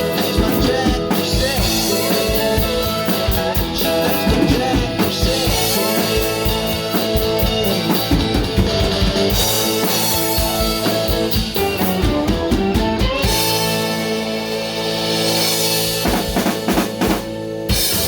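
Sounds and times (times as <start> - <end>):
country song with guitar: 0.0 - 18.0
drum kit playing: 0.0 - 18.0.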